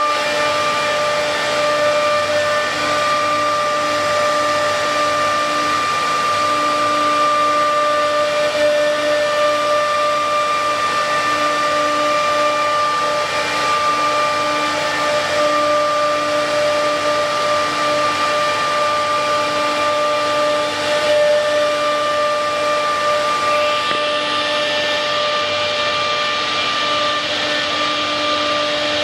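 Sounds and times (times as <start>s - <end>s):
router spindles whining: 0.0s - 29.0s.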